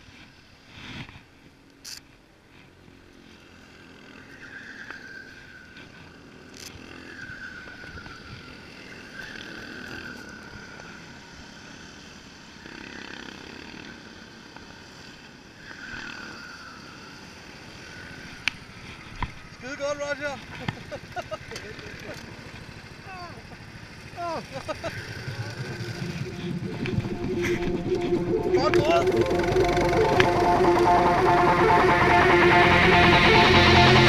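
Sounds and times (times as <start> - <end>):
go-kart engines whining: 0.1 - 34.0.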